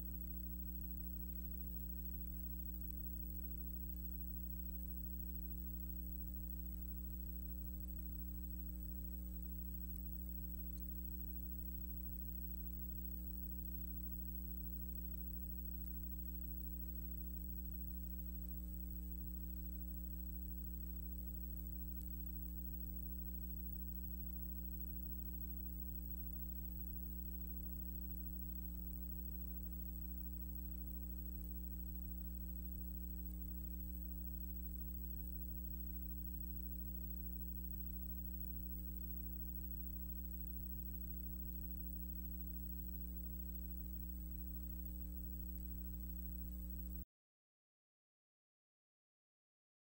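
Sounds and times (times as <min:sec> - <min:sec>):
electrical mains hum: 0:00.0 - 0:47.0
faint high whine: 0:00.0 - 0:47.1.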